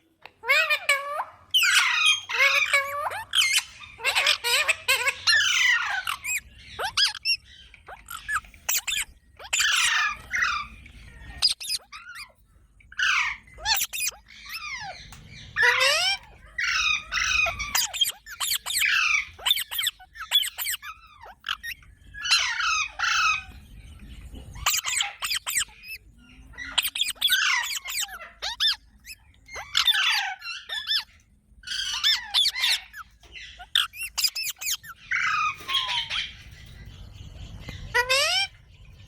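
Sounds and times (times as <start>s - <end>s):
parrot squawking: 0.2s - 23.6s, 24.5s - 36.8s, 37.4s - 38.6s.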